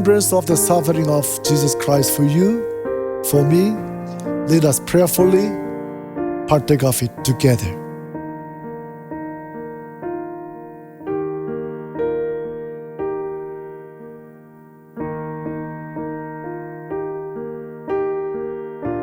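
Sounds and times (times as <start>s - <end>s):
keyboard playing soft chords: 0.0s - 19.0s.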